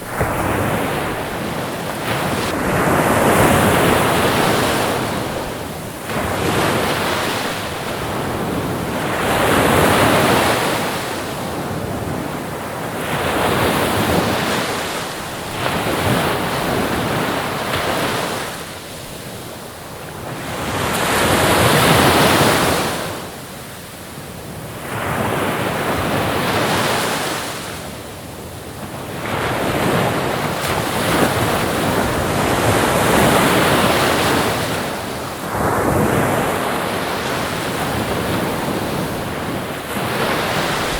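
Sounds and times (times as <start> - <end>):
ocean waves breaking: 0.0 - 23.4, 28.8 - 40.9
wind: 0.0 - 40.9.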